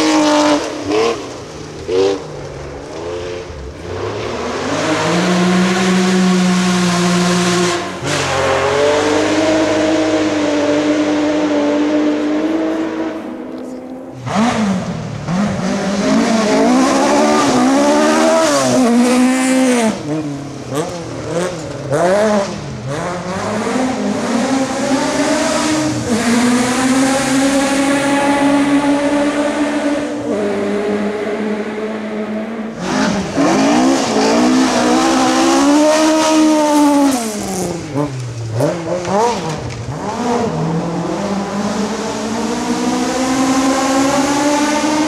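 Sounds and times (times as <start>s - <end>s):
rally car engines revving past: 0.0s - 45.0s.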